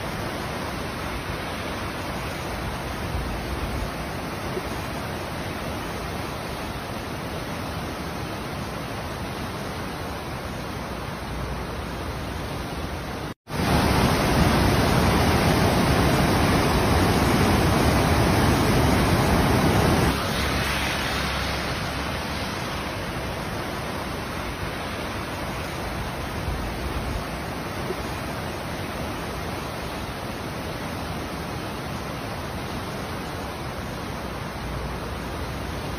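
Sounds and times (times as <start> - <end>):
river floodwater rushing: 0.0 - 35.9.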